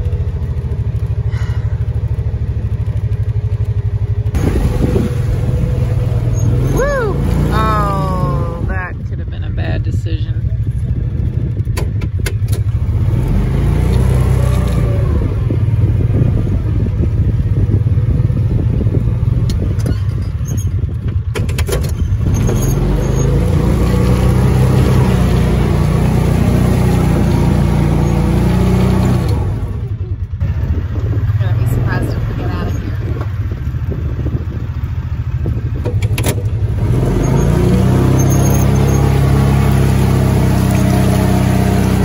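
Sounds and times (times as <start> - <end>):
vehicle engine under load: 0.0 - 42.0.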